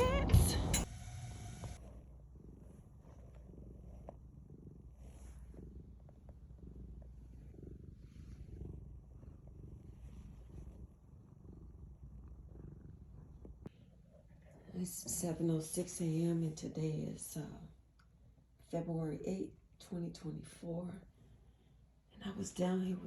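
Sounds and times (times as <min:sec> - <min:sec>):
cat purring: 0:00.0 - 0:18.6.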